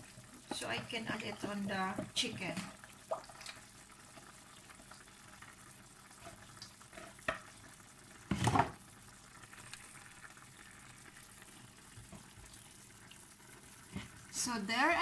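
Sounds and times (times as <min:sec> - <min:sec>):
pot simmering: 0:00.0 - 0:15.0.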